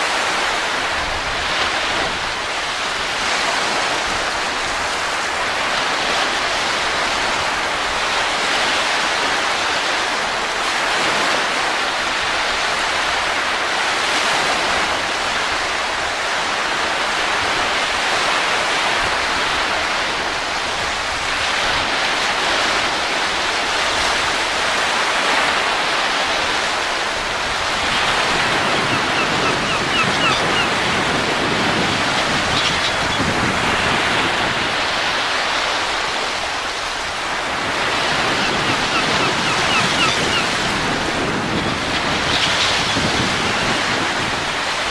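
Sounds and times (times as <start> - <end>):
rushing wind: 0.0 - 44.9.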